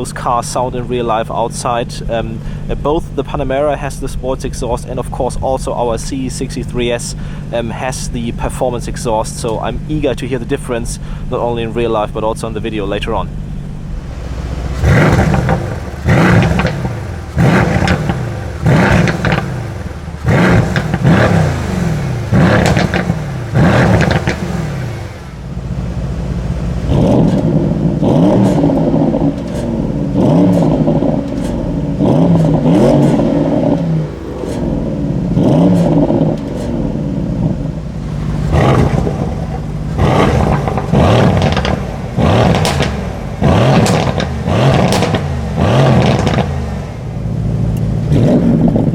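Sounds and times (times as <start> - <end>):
car exhaust revving: 0.0 - 48.9.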